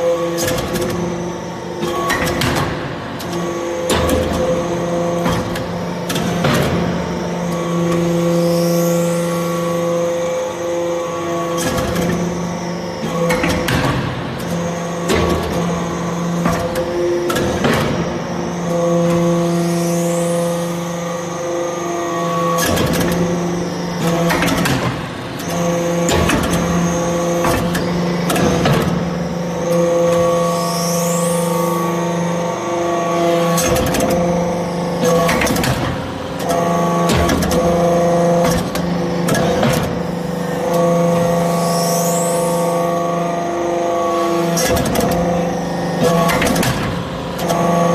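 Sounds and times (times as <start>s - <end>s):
hydraulic unit humming: 0.0s - 47.9s.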